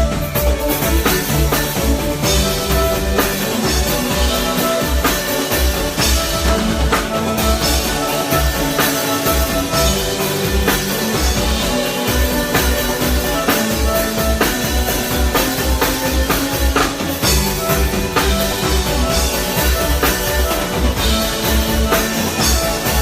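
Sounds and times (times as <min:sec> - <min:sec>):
drum kit: 0:00.0 - 0:23.0
held instrument notes: 0:00.0 - 0:23.0.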